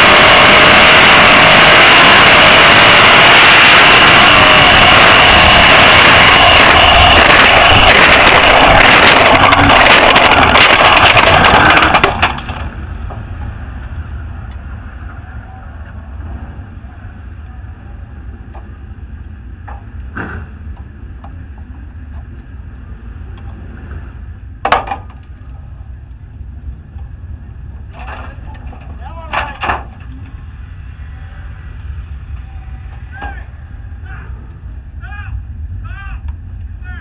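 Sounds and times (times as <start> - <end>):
race car engine running: 0.0 - 36.8
low rumble: 0.0 - 37.0.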